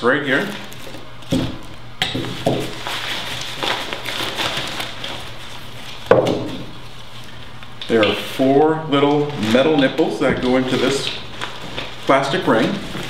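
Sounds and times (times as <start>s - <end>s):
fabric rustling and crinkling: 2.2s - 13.0s.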